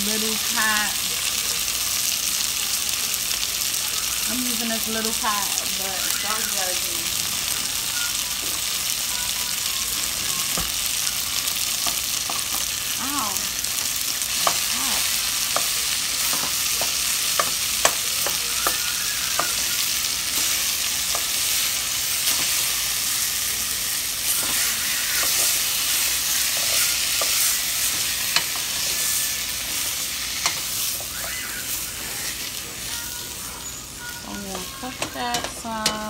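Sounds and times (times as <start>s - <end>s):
meat crumbles sizzling in oil: 0.0s - 36.0s.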